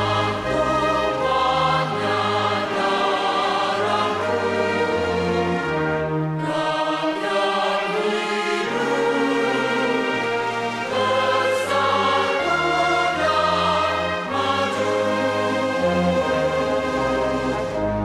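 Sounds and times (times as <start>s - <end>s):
choir singing: 0.0s - 18.0s
orchestral accompaniment: 0.0s - 18.0s.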